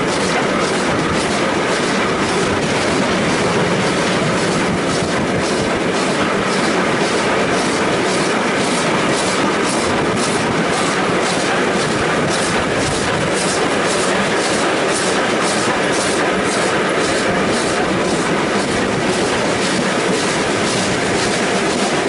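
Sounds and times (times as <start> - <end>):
train rumble: 0.0 - 22.0
train wheels clickety-clack: 0.0 - 22.0.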